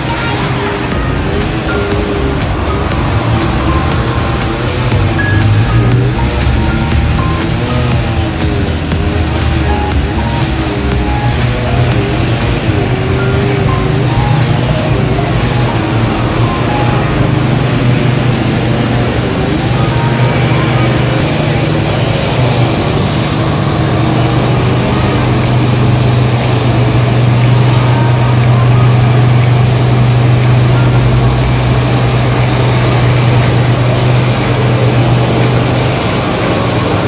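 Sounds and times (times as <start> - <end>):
small petrol engine cutting grass: 0.0 - 37.0.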